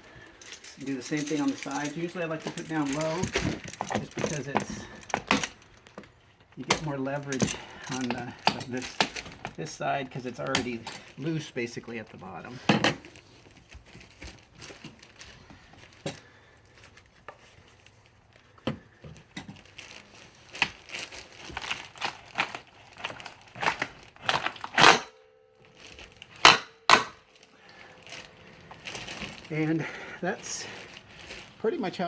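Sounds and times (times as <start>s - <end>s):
metal bending and cracking: 0.0s - 32.0s.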